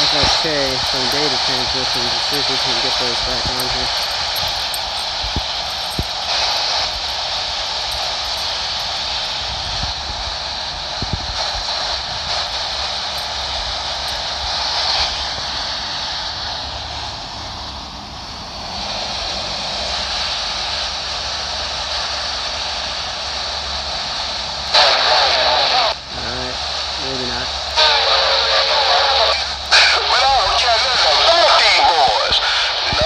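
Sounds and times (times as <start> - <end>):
radio static hiss: 0.0 - 17.8, 19.6 - 33.0.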